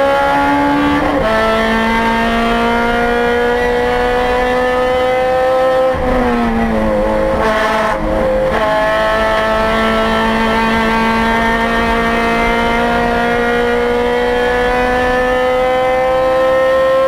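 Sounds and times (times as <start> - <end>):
race car engine: 0.0 - 17.0.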